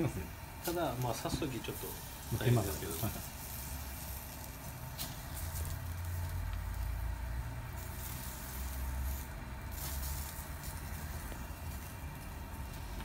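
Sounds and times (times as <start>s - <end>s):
skewers sizzling on a grill: 0.0s - 13.0s.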